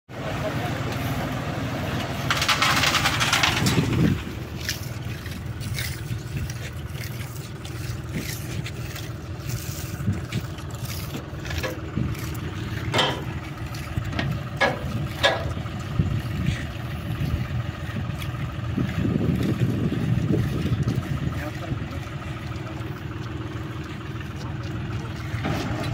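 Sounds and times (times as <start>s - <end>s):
tractor engine running: 0.1s - 25.9s.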